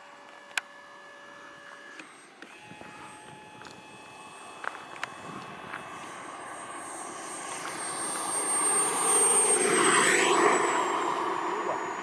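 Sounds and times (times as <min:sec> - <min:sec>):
model jet turbine whining overhead: 0:00.0 - 0:12.0.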